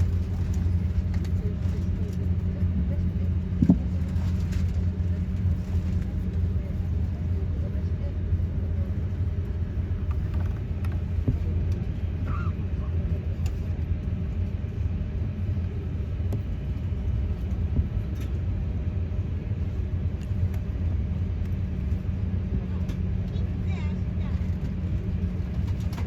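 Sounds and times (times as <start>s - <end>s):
aircraft cabin rumble: 0.0s - 26.0s.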